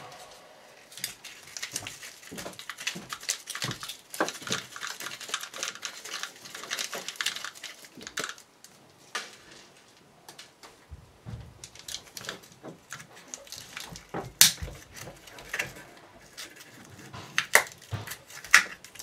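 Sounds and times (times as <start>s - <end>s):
small hard pieces clicking and rattling: 0.9s - 9.6s, 11.6s - 19.0s.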